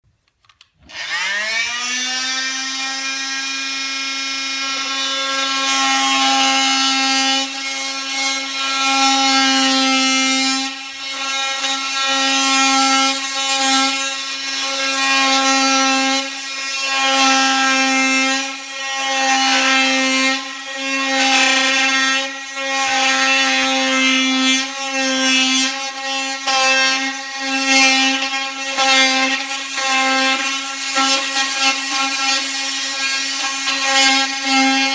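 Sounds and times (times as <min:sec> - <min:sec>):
multi-tool saw cutting wood: 0:00.8 - 0:34.9.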